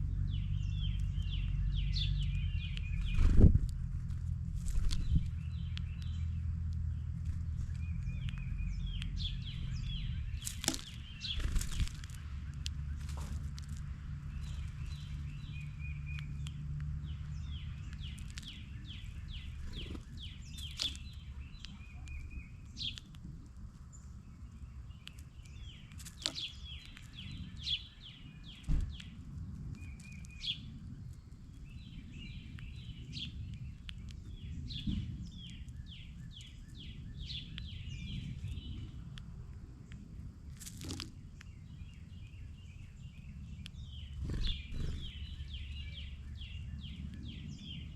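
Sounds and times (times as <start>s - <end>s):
low background rumble: 0.0s - 47.9s
songbird singing: 0.0s - 47.9s.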